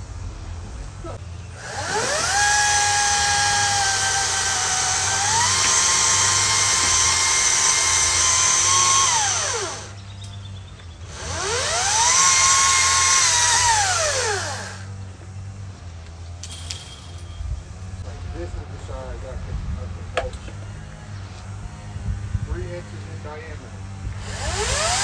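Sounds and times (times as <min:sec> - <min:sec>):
chainsaw motor whining: 0:00.6 - 0:10.4, 0:11.0 - 0:16.5, 0:19.8 - 0:25.0.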